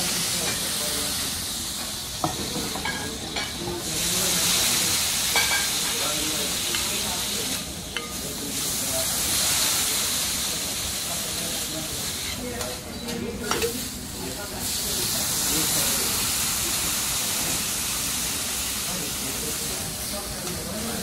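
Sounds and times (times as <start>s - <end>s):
food sizzling on a griddle: 0.0s - 21.0s
steam hissing: 0.0s - 21.0s.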